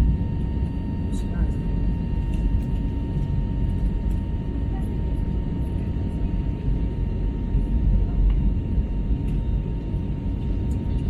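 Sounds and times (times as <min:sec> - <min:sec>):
aircraft engines and airflow rumble: 0:00.0 - 0:11.0.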